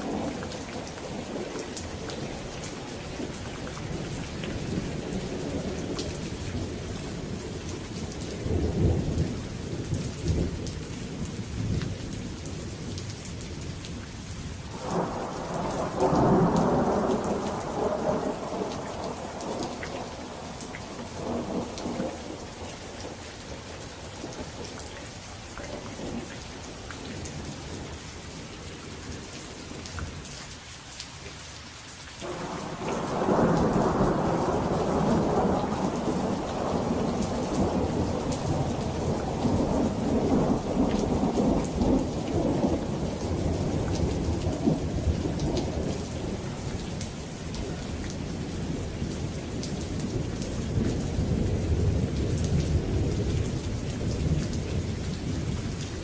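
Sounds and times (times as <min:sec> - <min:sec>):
thunder rumbling: 0:00.0 - 0:11.8, 0:14.7 - 0:24.8, 0:32.2 - 0:56.0
steady rain falling: 0:00.0 - 0:56.0.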